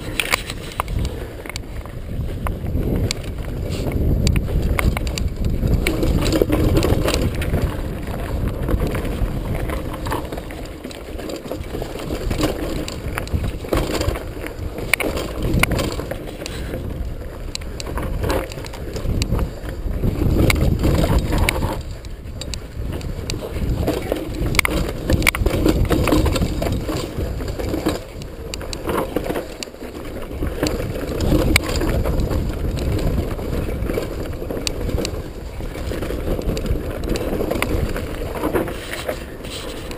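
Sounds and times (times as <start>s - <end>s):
bike rattles and clicks: 0.0s - 39.9s
tyres rumbling over dirt and stones: 0.0s - 39.9s.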